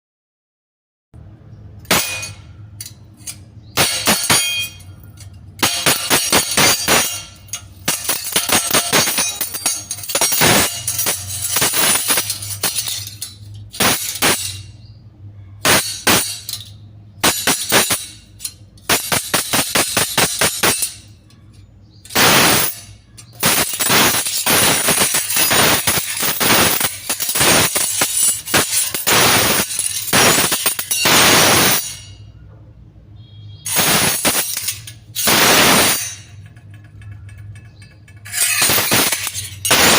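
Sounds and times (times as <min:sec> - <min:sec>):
steel spoons clattering: 0:01.8 - 0:15.0, 0:15.6 - 0:32.3, 0:33.7 - 0:39.9.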